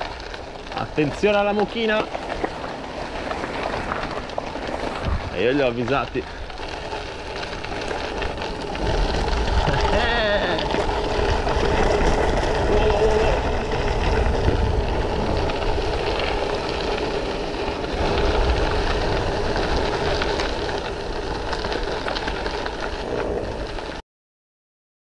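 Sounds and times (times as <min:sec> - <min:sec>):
tyres crunching on gravel: 0:00.0 - 0:24.0
wind buffeting microphone: 0:00.0 - 0:24.0.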